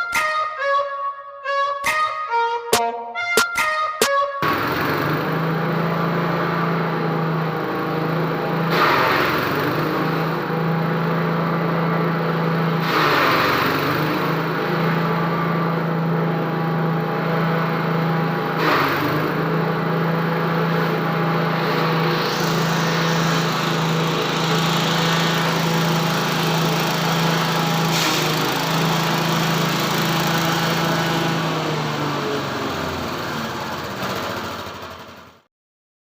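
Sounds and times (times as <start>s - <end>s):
forage chopper machine droning: 4.4s - 35.4s.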